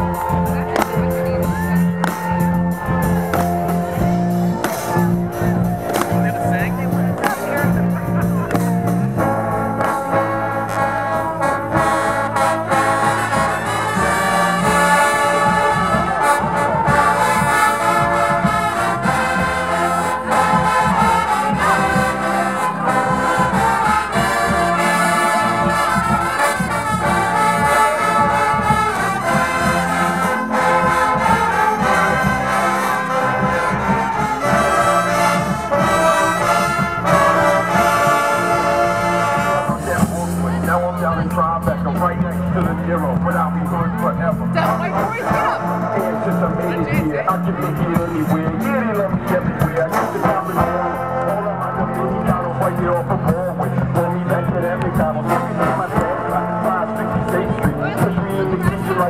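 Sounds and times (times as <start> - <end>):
marching band brass playing: 0.0 - 59.0
sousaphones low notes: 0.0 - 59.0.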